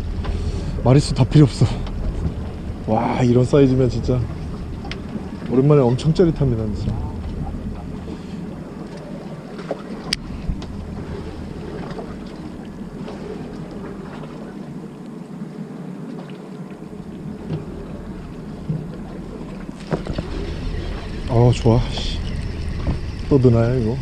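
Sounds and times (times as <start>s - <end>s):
boat engine hum: 0.0s - 24.0s
wind on microphone: 0.0s - 24.0s.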